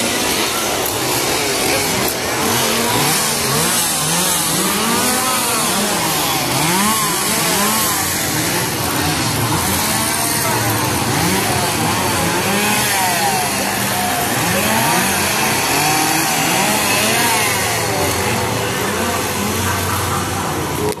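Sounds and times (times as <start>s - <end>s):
chainsaws revving: 0.0s - 21.0s.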